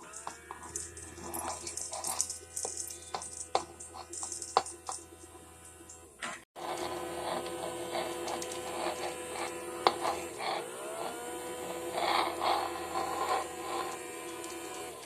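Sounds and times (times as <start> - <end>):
plastic scraping: 0.0 - 15.0
vacuum motor whine: 0.0 - 15.0.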